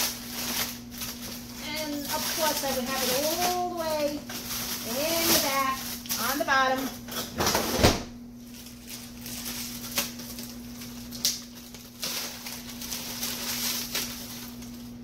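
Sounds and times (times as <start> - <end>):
plastic bag crinkling: 0.0 - 7.5, 8.3 - 15.0
frozen packages knocking: 0.0 - 15.0
steady low hum: 0.0 - 15.0.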